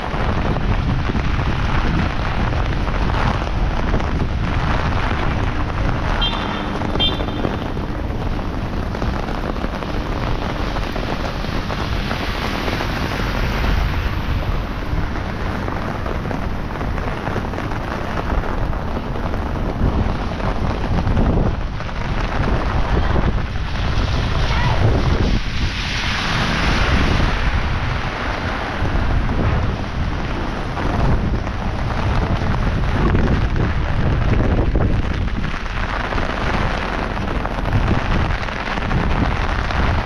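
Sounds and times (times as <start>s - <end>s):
heavy rain pouring: 0.0s - 40.0s
wind rumbling on microphone: 0.0s - 40.0s.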